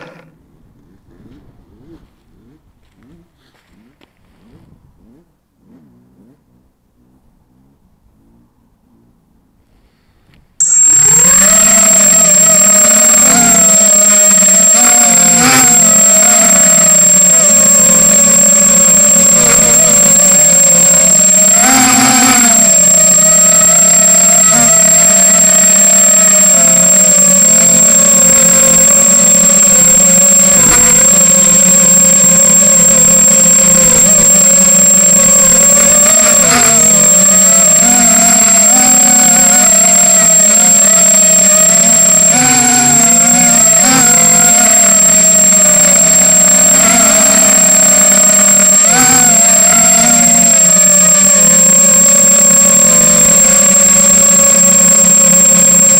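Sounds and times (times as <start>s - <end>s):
quadcopter motors buzzing: 10.6s - 55.9s
thin steady high tone: 10.6s - 55.9s.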